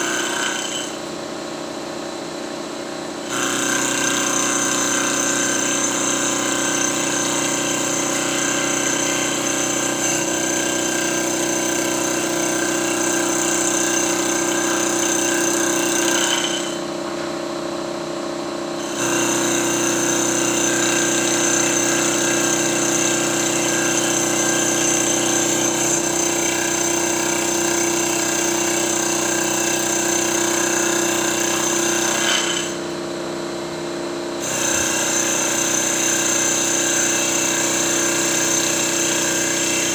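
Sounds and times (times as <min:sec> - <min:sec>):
high-pitched lathe whine: 0:00.0 - 0:39.9.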